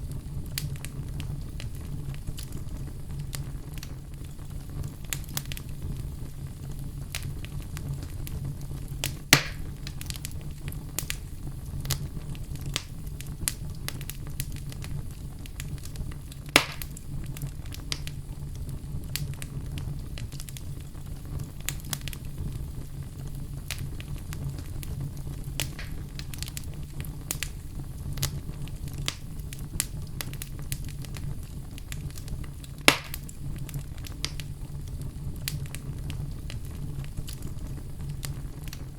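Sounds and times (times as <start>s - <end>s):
loud fire pops: 0.0s - 38.9s
wood fire crackling: 0.0s - 38.9s.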